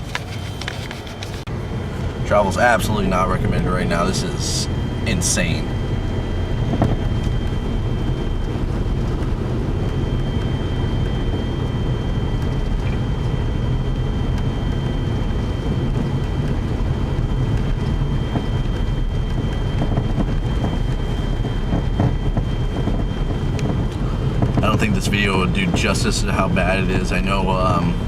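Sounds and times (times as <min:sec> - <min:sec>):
faint high whine: 0:00.0 - 0:28.0.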